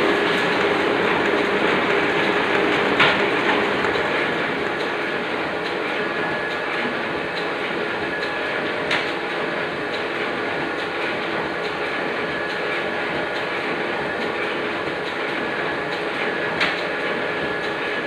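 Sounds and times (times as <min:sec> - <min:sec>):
printing press clattering: 0:00.0 - 0:18.0.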